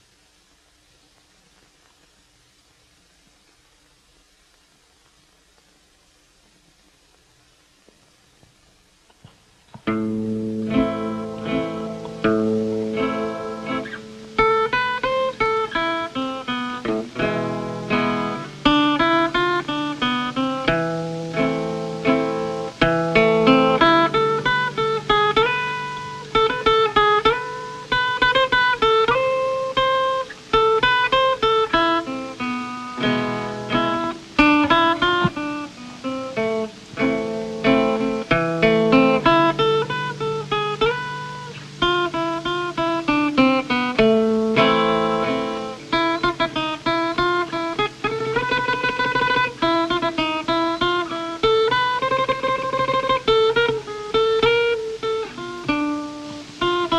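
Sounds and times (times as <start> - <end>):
acoustic guitar music: 9.1 - 56.9.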